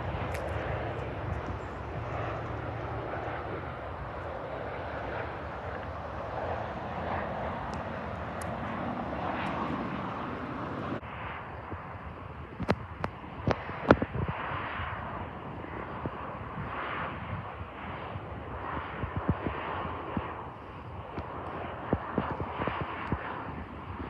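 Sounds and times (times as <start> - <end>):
airplane engines running: 0.0 - 24.0.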